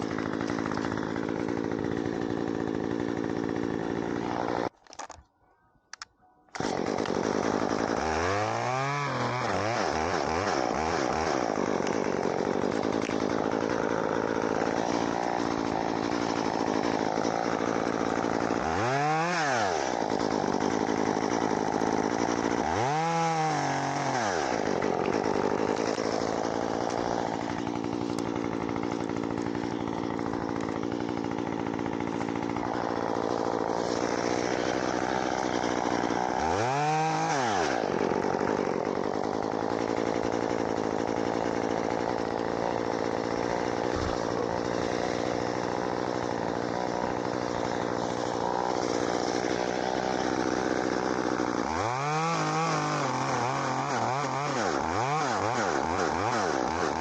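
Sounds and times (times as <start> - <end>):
chainsaw running and revving: 0.0 - 5.1, 6.6 - 57.0.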